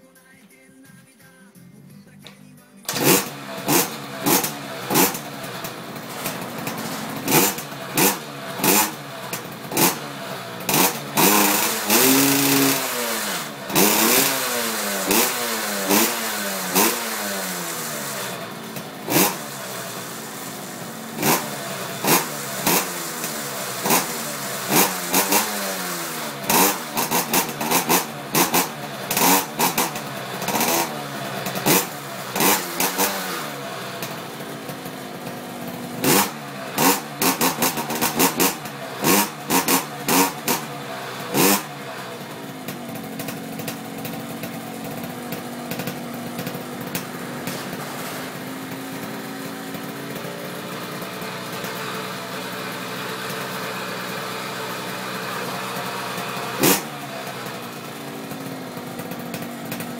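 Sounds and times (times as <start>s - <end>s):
two-stroke motorbike revving: 2.9s - 59.9s.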